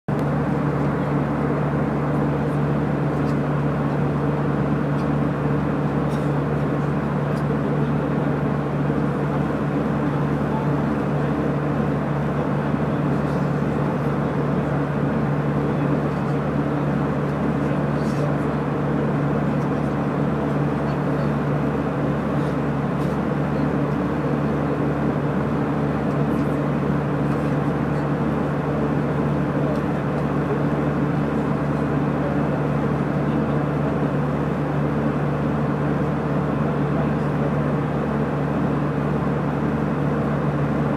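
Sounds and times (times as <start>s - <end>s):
airliner cabin drone: 0.1s - 40.9s.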